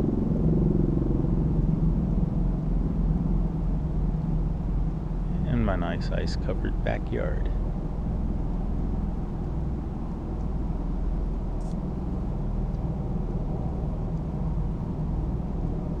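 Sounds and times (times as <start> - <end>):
heavy low rumble: 0.0 - 16.0.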